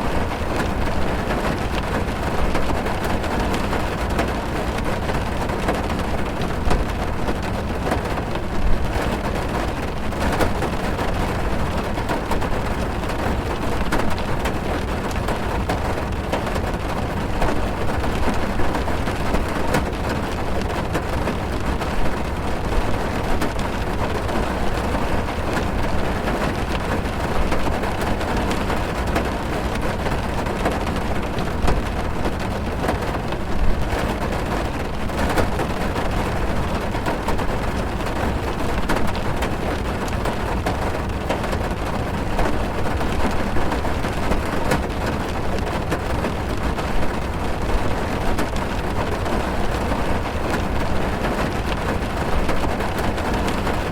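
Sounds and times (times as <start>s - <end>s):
heavy rain on car roof: 0.0s - 53.9s.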